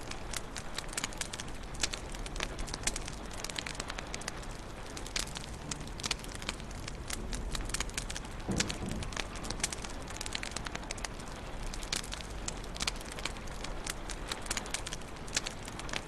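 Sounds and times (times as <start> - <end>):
soft rush of fire: 0.0 - 16.0
wood fire crackling: 0.0 - 16.0.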